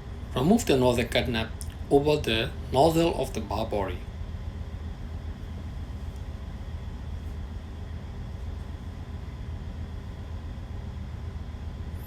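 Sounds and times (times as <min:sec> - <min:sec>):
machinery droning: 0:00.0 - 0:12.0.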